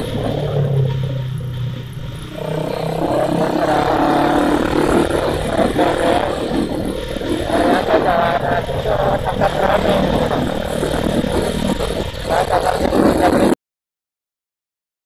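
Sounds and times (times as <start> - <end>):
motorcycle engine accelerating: 0.0 - 13.6
wind and road noise: 0.0 - 13.6.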